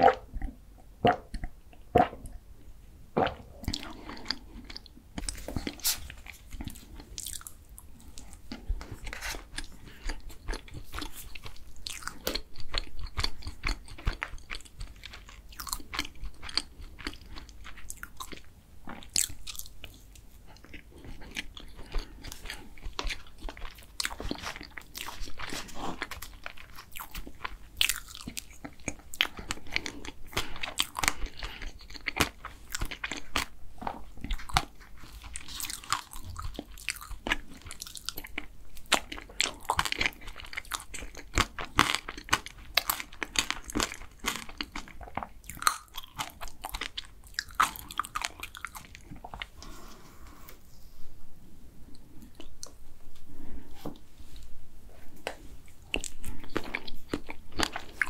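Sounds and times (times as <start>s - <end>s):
person chewing wetly: 0.0s - 2.4s, 3.2s - 49.7s, 55.3s - 58.0s.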